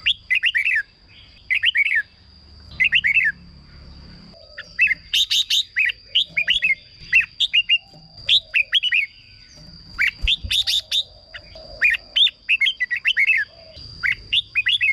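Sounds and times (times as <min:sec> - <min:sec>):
bird whistling song: 0:00.0 - 0:14.9.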